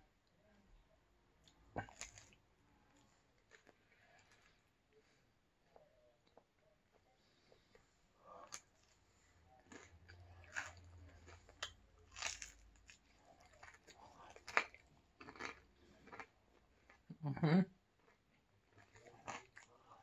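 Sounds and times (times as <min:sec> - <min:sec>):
person chewing crispy pizza: 0:01.4 - 0:17.1, 0:17.8 - 0:20.0.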